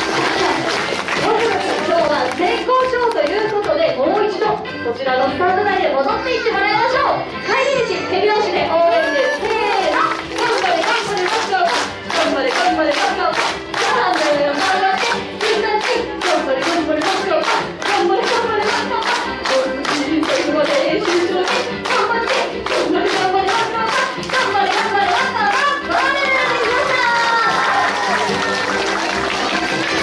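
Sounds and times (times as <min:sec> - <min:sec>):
audience clapping in rhythm: 0:00.0 - 0:03.8, 0:09.6 - 0:30.0
music with singing: 0:00.0 - 0:30.0.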